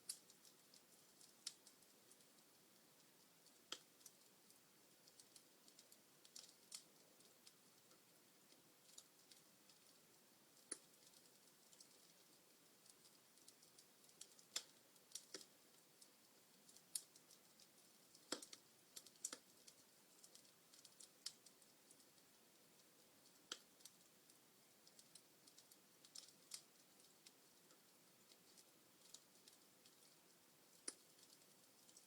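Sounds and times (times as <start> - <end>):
faint steady hiss: 0.0 - 32.0
wood fire crackling: 0.0 - 32.0.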